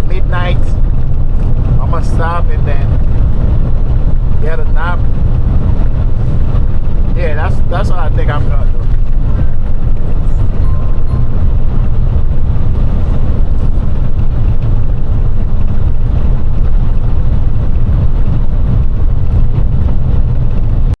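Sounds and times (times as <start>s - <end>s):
truck engine and tyre rumble: 0.0s - 21.0s.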